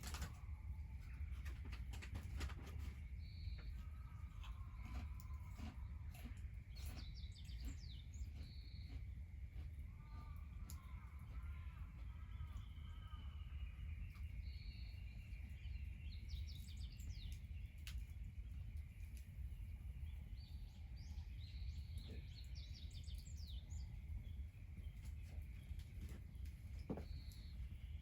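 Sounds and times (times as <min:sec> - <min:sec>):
birds chirping: 0:00.0 - 0:28.0
low background rumble: 0:00.0 - 0:28.0.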